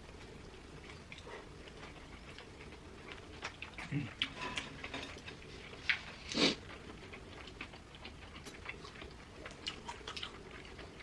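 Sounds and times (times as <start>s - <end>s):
chewing: 0.1s - 11.0s.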